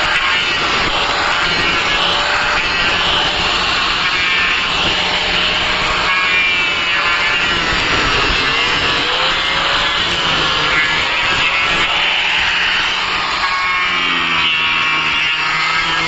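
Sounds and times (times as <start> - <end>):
power tool cutting wood: 0.0 - 16.0.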